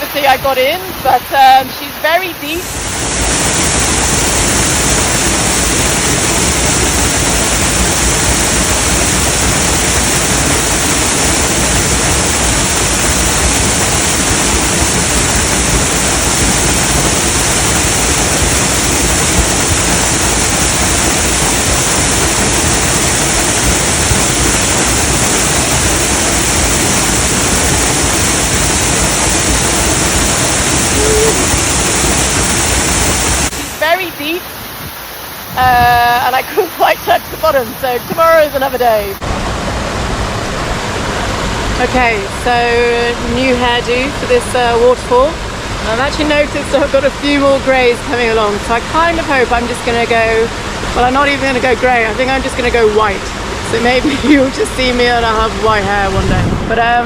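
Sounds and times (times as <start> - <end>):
waterfall rushing: 0.0 - 56.8.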